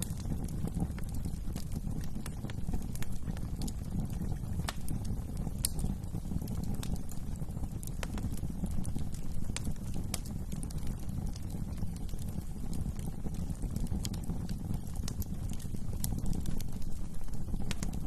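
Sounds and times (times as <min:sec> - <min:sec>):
low rumble of burning: 0:00.0 - 0:18.0
wood fire crackling: 0:00.0 - 0:18.0.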